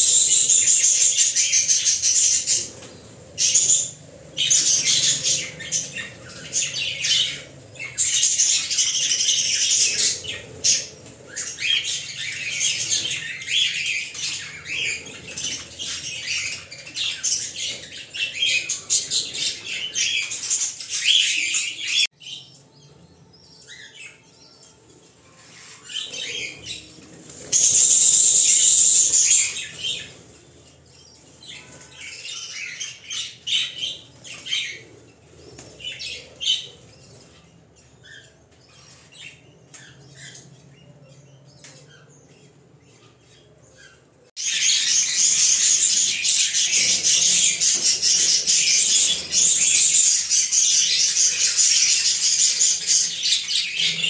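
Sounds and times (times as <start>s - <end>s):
parrot chicks chirping and begging: 0.0s - 54.0s.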